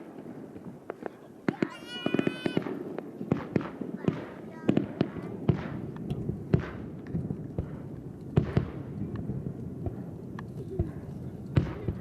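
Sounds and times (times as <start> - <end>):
distant firework bangs: 0.0 - 12.0
small firework pops: 0.0 - 12.0.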